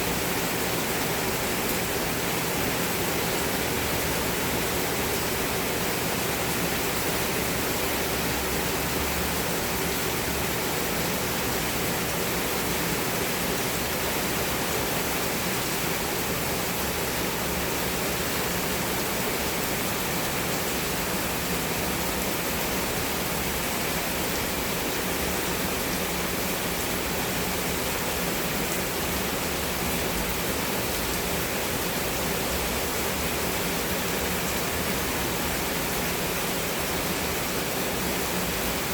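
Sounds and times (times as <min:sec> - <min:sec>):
heavy rain on plants: 0:00.0 - 0:38.9.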